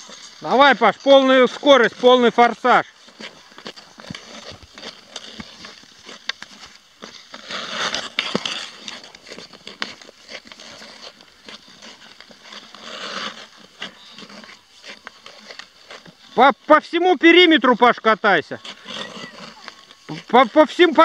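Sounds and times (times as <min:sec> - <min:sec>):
hockey stick clicking on ice: 0:00.0 - 0:16.2, 0:18.6 - 0:21.0
ice skates scraping ice: 0:00.0 - 0:21.0.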